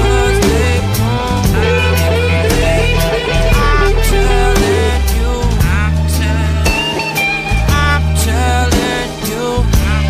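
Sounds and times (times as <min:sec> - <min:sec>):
rock music with guitar bass and drums: 0:00.0 - 0:10.0.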